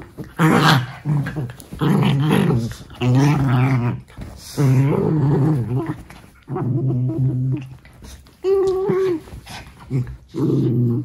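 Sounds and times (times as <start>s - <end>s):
dog growling: 0.0s - 11.0s.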